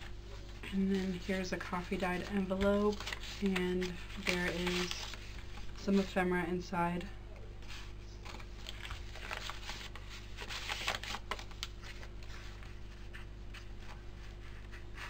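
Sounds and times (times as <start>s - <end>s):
faint steady hum: 0.0s - 15.0s
paper rustling: 0.4s - 6.2s, 7.6s - 15.0s.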